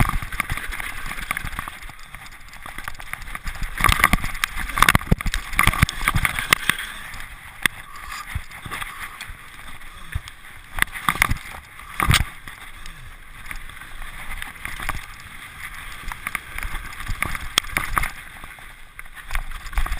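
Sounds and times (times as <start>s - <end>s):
bike tyres crunching over stones: 0.0s - 19.9s.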